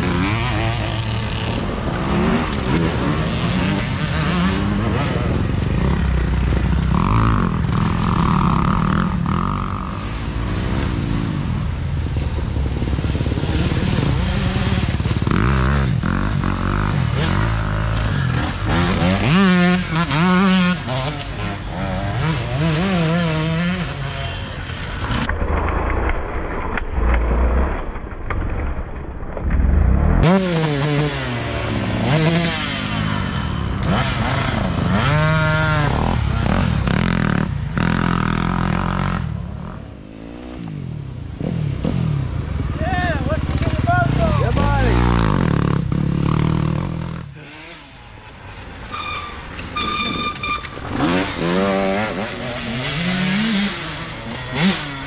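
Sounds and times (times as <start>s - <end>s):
dirt bike engines revving: 0.0s - 25.3s, 29.8s - 55.0s.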